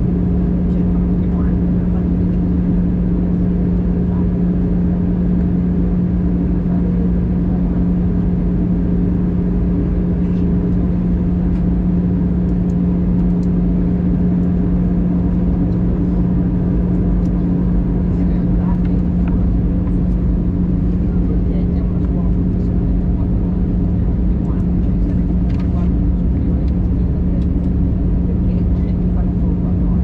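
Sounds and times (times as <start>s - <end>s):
aircraft cabin air and engine noise: 0.0s - 30.0s.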